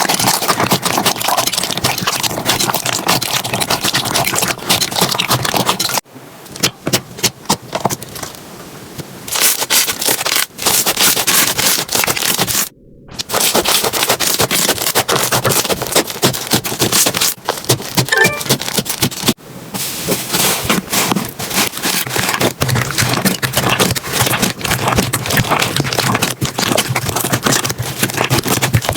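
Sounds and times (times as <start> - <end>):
slime crackling and squelching: 0.0 - 6.0, 9.3 - 19.4, 20.3 - 28.9.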